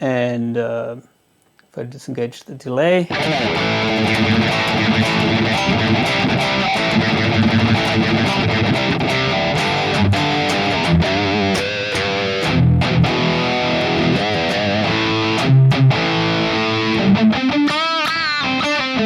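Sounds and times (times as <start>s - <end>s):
electric guitar playing: 3.1s - 19.0s.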